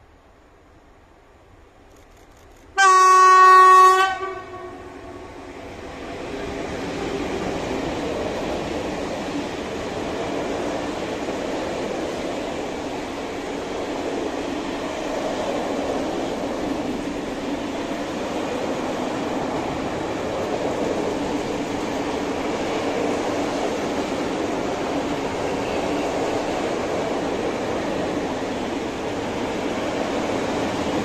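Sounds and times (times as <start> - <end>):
freight train rumbling past: 2.8 - 31.0.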